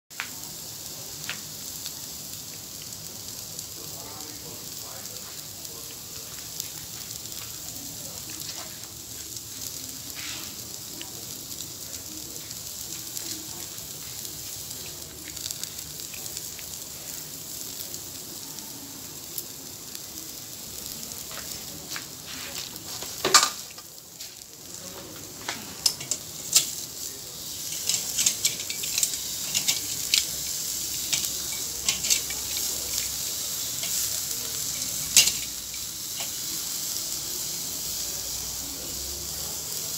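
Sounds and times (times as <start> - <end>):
charcoal crackling and popping: 0.1 - 39.9
skewers sizzling over charcoal: 0.1 - 39.9.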